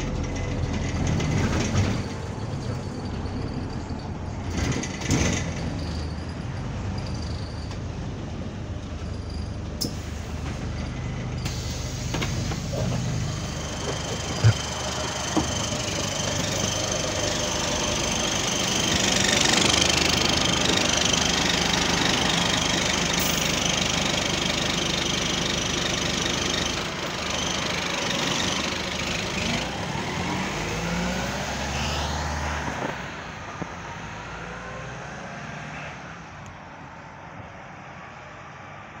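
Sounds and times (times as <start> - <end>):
bus engine droning: 0.0 - 39.0.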